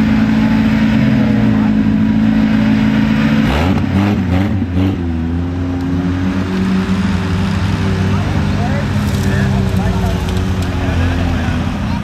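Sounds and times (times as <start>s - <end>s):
engine revving hard: 0.4s - 10.2s.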